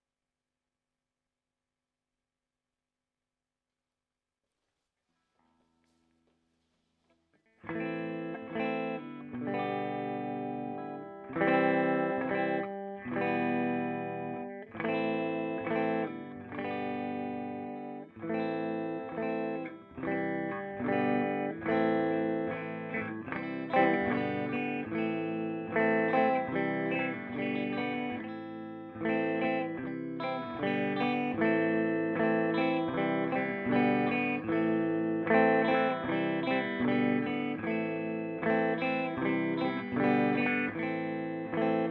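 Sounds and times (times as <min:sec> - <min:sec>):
clean electric guitar chords: 0:07.6 - 0:41.9.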